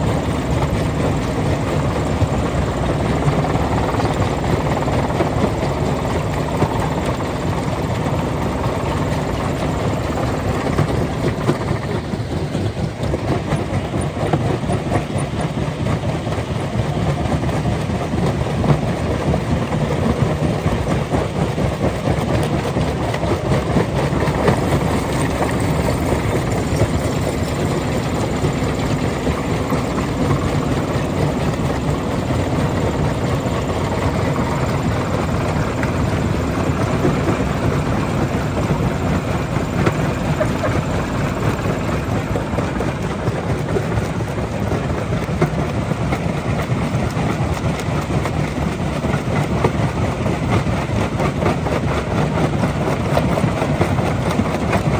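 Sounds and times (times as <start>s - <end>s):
rock crusher running: 0.0s - 54.9s.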